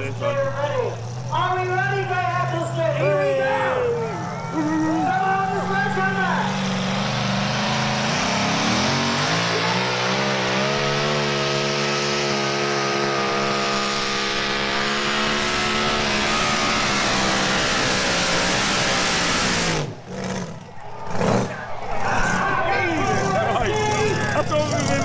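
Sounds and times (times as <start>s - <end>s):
tractor engine at full power: 0.0s - 25.0s.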